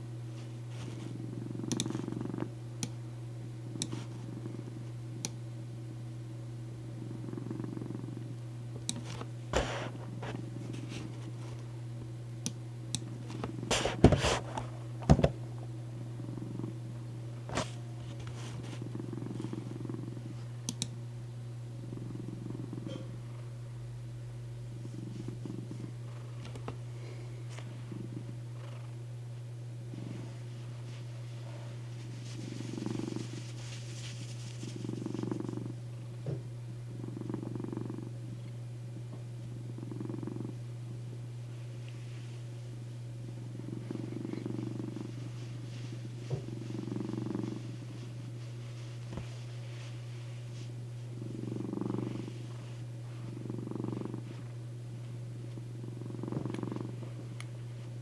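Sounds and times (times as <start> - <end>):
steady low hum: 0.0 - 58.0
cat purring: 0.3 - 3.0, 3.6 - 5.4, 6.7 - 11.8, 13.0 - 20.9, 21.8 - 23.7, 24.7 - 29.1, 29.8 - 58.0.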